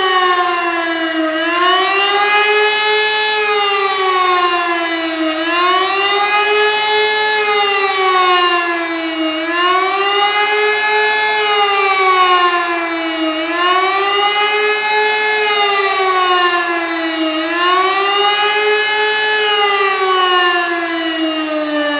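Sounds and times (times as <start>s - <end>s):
electric motor siren wailing: 0.0s - 21.9s.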